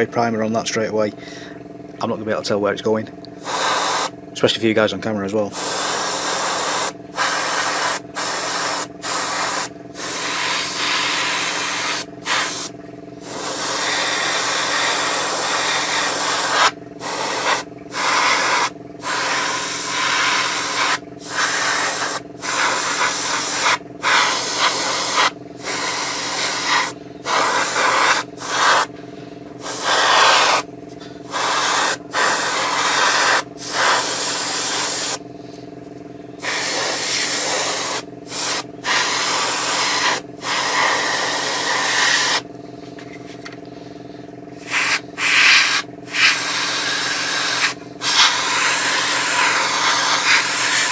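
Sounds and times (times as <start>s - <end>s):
steady low hum: 0.0s - 50.9s
airbrush spraying hiss: 3.4s - 4.1s, 5.5s - 28.9s, 29.6s - 30.7s, 31.3s - 35.2s, 36.4s - 42.4s, 44.6s - 50.9s.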